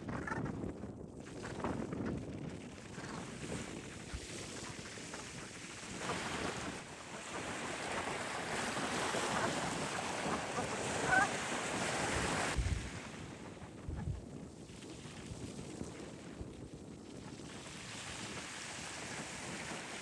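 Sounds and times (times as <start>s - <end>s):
wind noise on microphone: 0.0s - 20.0s
waves washing on shore: 2.8s - 16.4s, 17.2s - 20.0s.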